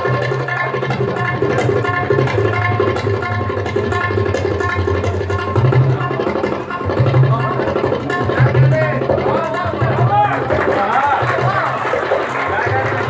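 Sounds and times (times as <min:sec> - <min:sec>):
deep bass drum tones: 0:00.0 - 0:12.0
tabla strokes: 0:00.0 - 0:13.0.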